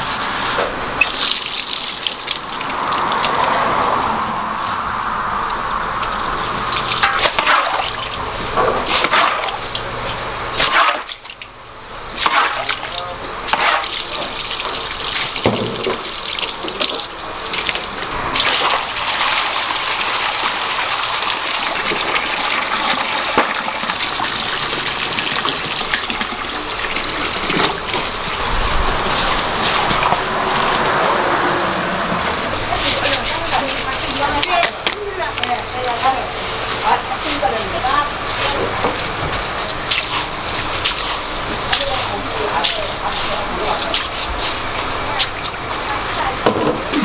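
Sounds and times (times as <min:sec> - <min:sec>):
running splashing water: 0:01.0 - 0:11.5, 0:12.1 - 0:32.0, 0:32.6 - 0:47.0.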